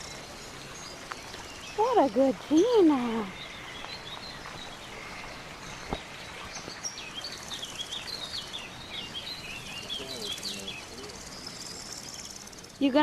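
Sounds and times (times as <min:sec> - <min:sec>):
outdoor background noise: 0:00.0 - 0:13.0
small bird chirping: 0:00.0 - 0:13.0.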